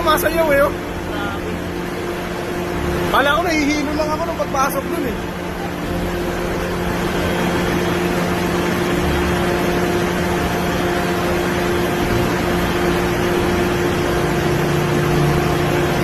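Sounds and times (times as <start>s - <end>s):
machine hum with steady tones: 0.0s - 16.0s
noisy background: 0.0s - 16.0s.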